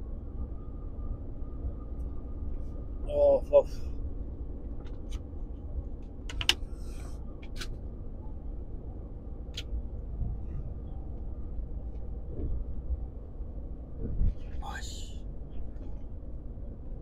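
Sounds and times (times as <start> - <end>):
low rumble inside vehicle cab: 0.0 - 17.0.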